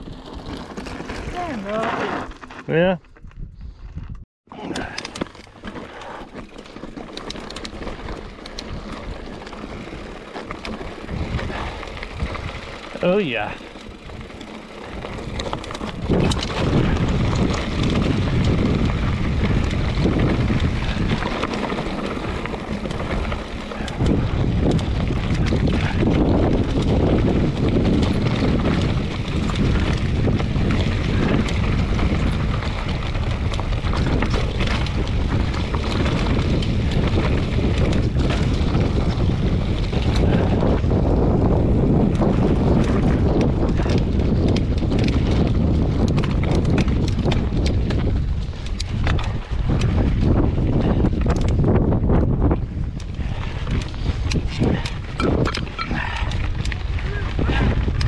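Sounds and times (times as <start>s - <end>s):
wind rushing over microphone: 0.0s - 4.2s, 7.6s - 58.0s.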